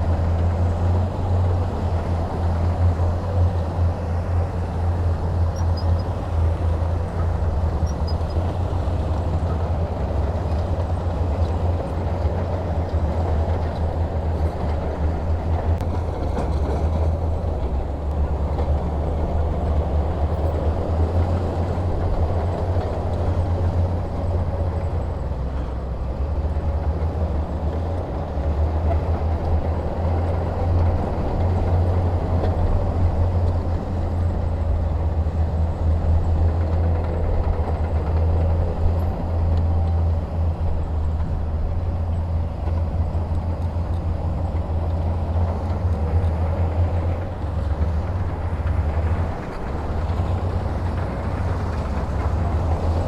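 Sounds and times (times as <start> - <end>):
diesel engine rumbling: 0.0 - 53.0.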